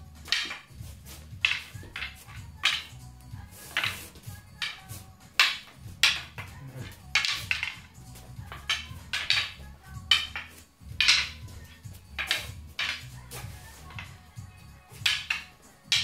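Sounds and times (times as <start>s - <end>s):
wooden sticks clacking: 0.0s - 16.0s.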